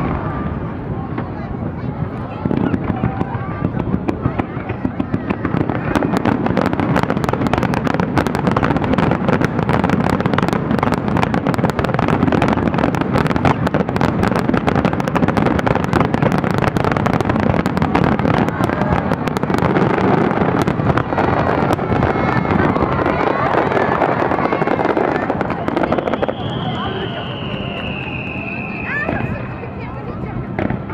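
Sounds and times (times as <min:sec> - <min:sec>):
firework crackling: 0:00.0 - 0:30.9.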